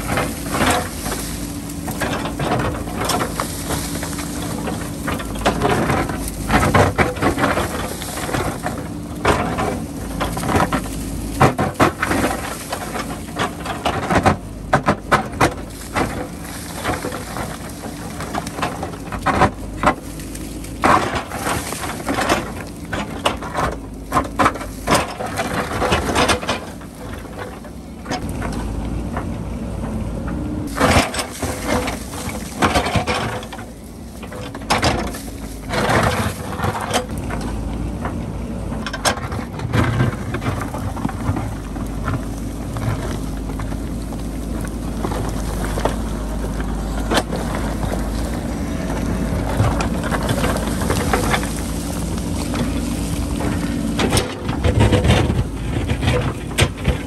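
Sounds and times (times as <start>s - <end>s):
bucket scraping rock: 0.0s - 28.7s, 30.7s - 37.6s, 38.9s - 57.0s
rocks clattering: 0.0s - 29.3s, 30.6s - 57.0s
diesel engine under load: 0.0s - 57.0s.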